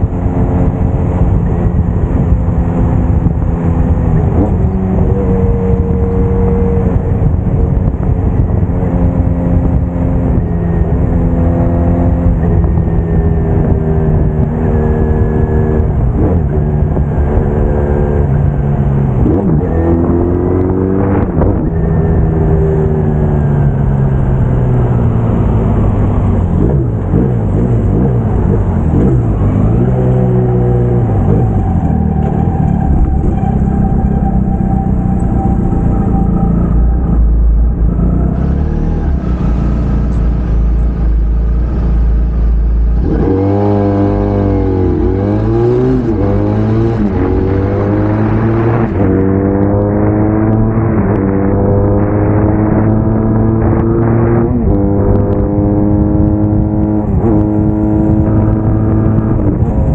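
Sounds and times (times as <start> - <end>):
motorcycle engine shifting gears: 0.0 - 59.9
wind noise on microphone: 0.0 - 59.9.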